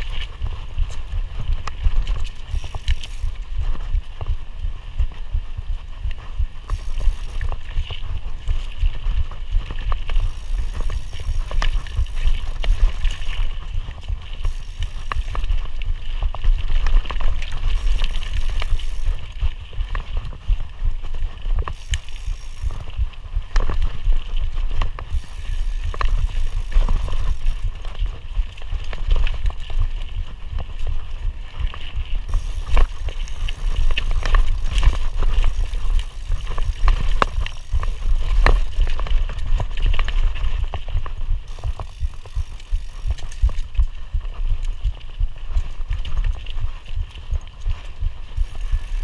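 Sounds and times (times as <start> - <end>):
bike rattling over trail: 0.0 - 49.0
wind rumble on microphone: 0.0 - 49.0.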